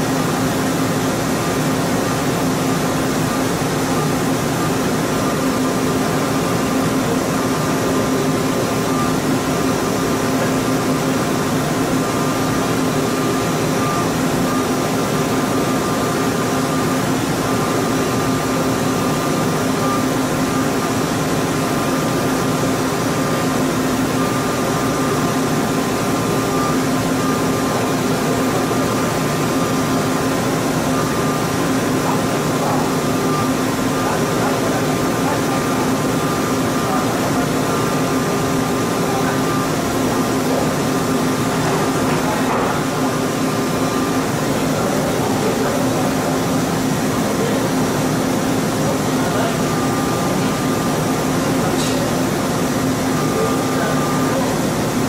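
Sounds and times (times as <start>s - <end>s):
high machine whine: 0.0s - 55.0s
milling machine hum: 0.0s - 55.0s.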